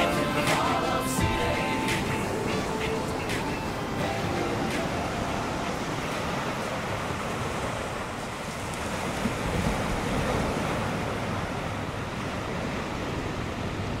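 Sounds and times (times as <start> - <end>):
ocean surf washing ashore: 0.0 - 14.0.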